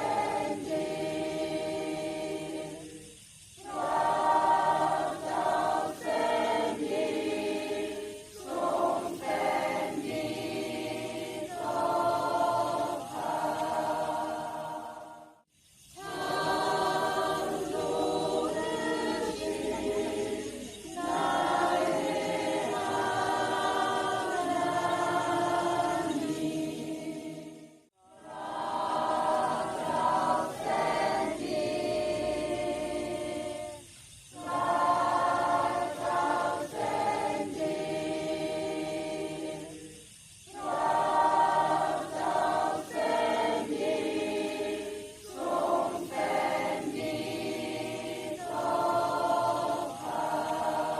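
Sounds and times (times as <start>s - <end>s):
group singing a praise song: 0.0s - 50.9s.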